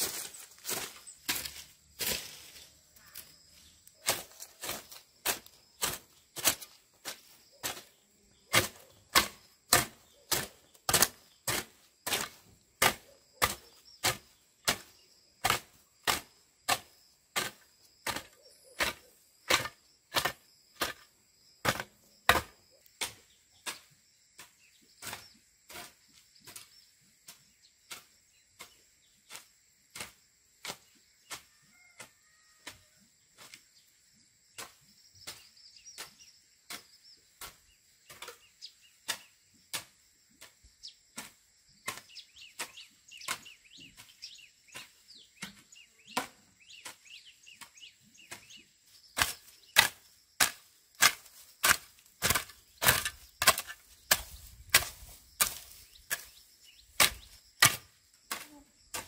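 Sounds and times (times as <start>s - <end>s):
hoe chopping into dry soil: 0.0s - 32.8s, 34.6s - 59.0s.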